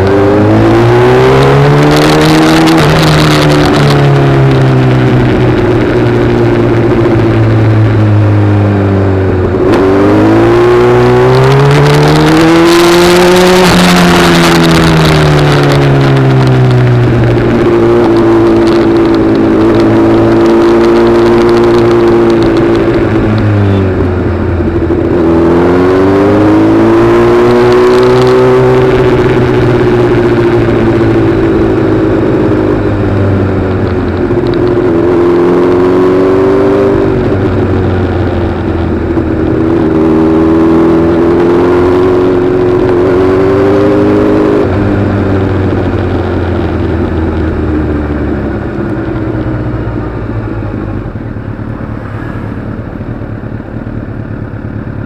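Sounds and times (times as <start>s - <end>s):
road noise: 0.0s - 55.0s
vehicle engine under throttle: 0.0s - 55.0s.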